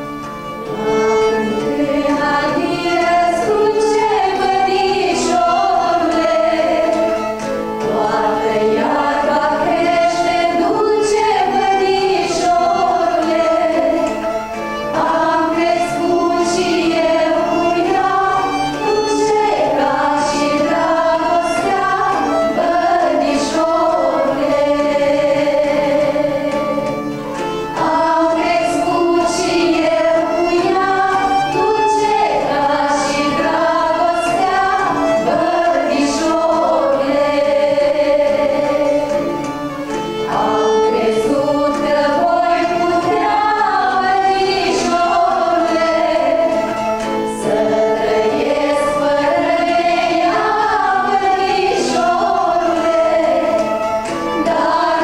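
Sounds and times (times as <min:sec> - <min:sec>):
instrumental accompaniment: 0:00.0 - 0:55.0.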